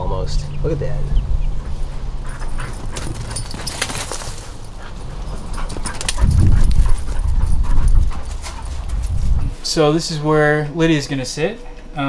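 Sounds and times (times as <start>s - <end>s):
dog panting: 1.5s - 12.0s.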